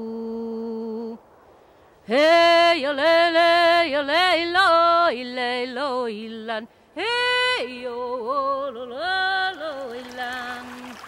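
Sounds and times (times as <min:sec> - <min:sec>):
person singing unaccompanied: 0:00.0 - 0:01.2, 0:02.1 - 0:11.0.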